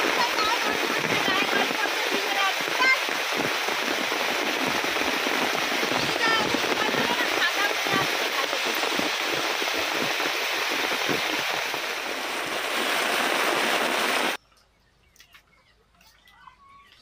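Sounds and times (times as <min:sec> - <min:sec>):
heavy rain on plastic roof: 0:00.0 - 0:14.4.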